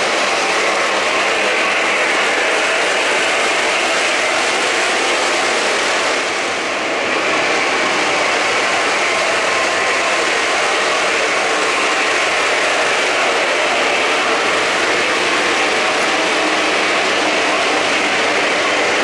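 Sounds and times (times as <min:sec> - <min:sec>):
model train wheels on rails: 0:00.0 - 0:19.0.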